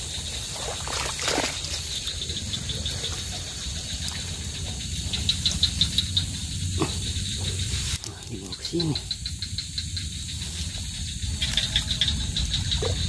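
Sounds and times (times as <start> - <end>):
insects chirping: 0.0 - 13.0
steady low rumble: 1.8 - 13.0.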